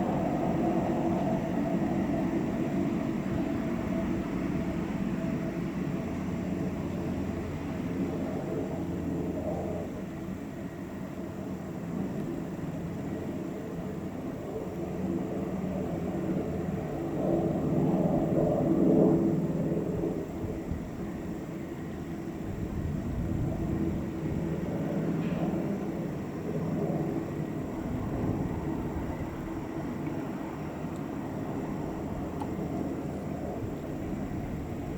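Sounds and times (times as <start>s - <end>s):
helicopter rotor and engine rumble: 0.0s - 34.9s.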